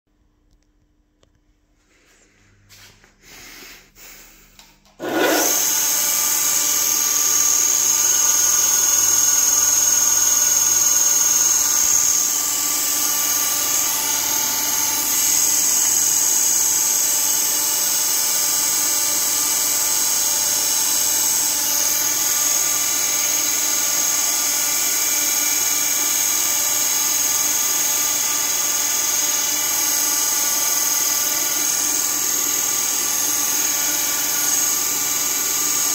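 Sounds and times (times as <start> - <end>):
grinder motor whining: 4.8 - 35.9.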